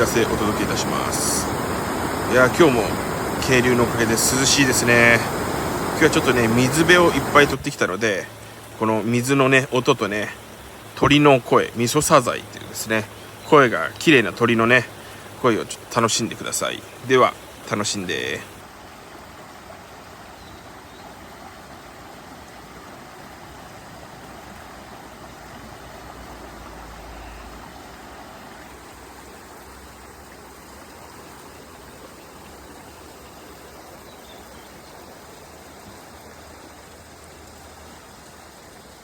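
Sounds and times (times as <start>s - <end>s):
mountain stream flowing: 0.0s - 39.0s.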